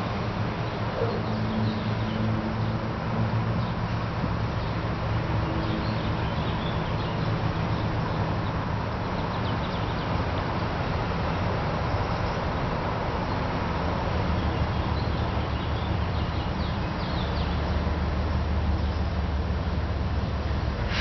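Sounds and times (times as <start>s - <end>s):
diesel locomotive rumble: 0.0s - 21.0s
road traffic: 0.0s - 21.0s.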